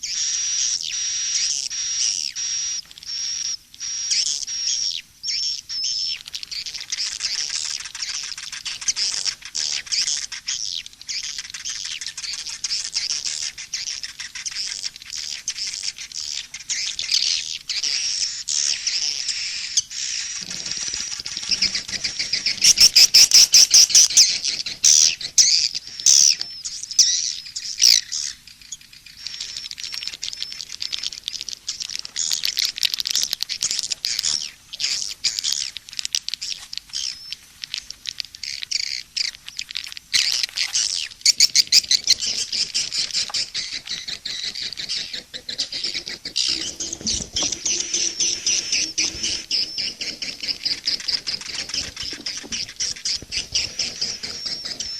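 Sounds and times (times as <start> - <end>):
swiftlet chirps and twitters: 0.1 - 35.8, 38.4 - 54.9.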